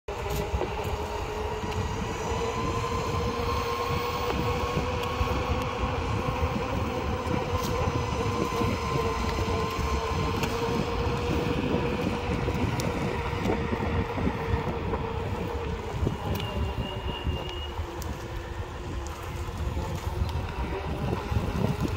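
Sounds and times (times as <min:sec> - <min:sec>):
longboard wheels rolling on asphalt: 0:00.1 - 0:21.9.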